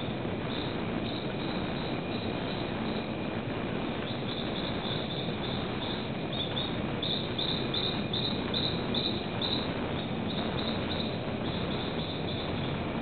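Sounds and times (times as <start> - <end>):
steady rushing background: 0.0 - 13.0.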